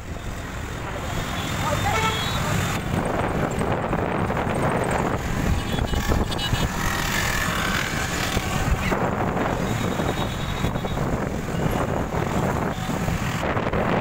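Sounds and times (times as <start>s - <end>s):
motorbikes and cars passing: 0.0s - 14.0s
road and traffic noise: 0.0s - 14.0s
wind buffeting microphone: 2.6s - 14.0s.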